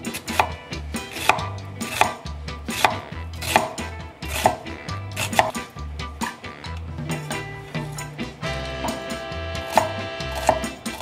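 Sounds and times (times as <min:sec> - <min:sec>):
knife chopping on wooden board: 0:00.0 - 0:06.5, 0:07.1 - 0:11.0.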